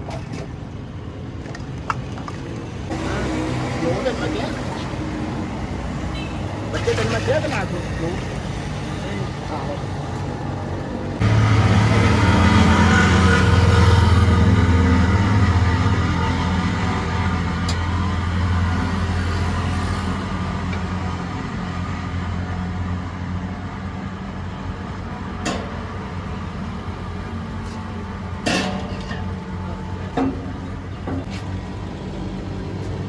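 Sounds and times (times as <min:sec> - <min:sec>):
road traffic hum: 0:00.0 - 0:33.0
vehicle engine running: 0:02.9 - 0:33.0.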